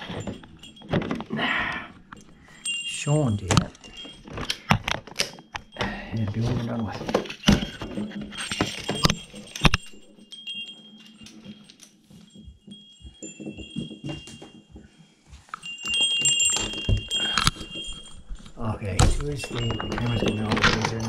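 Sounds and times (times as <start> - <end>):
metal wind chimes ringing: 0.0 - 21.0.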